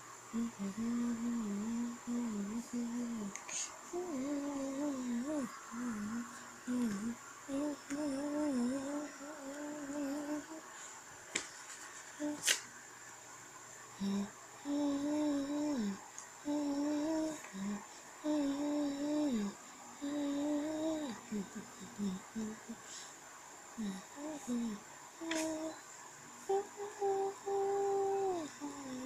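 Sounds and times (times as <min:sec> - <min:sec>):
person humming a tune: 0:00.3 - 0:10.7, 0:12.2 - 0:12.6, 0:14.0 - 0:22.9, 0:23.8 - 0:25.8, 0:26.5 - 0:29.0.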